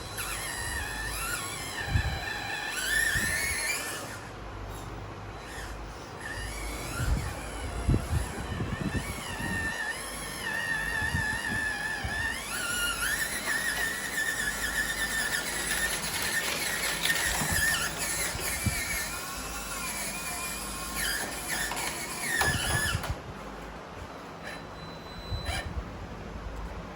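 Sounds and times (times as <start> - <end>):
toy car electric motor whining: 0.0 - 23.2, 24.4 - 25.8.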